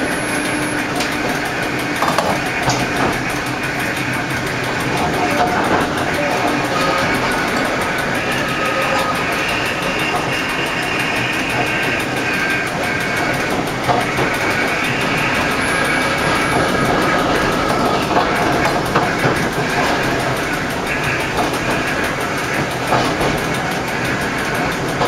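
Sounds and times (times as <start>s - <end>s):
electric railcar running on track: 0.0s - 25.0s
high whine: 0.0s - 25.0s
wheels clicking on rails: 0.0s - 25.0s.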